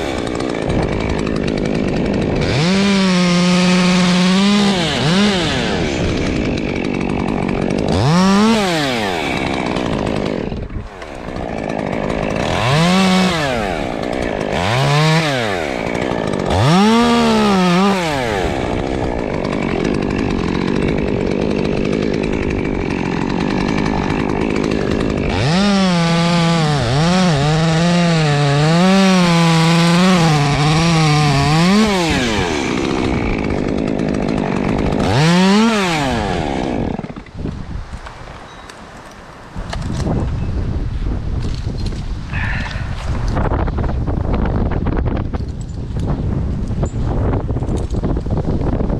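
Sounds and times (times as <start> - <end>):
chainsaw revving and cutting wood: 0.0 - 40.3, 41.2 - 48.9.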